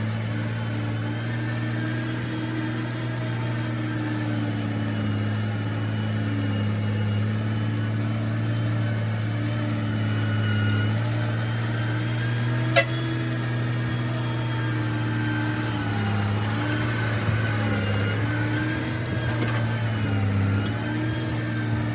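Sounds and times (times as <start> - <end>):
heavy machine engine running: 0.0 - 21.9.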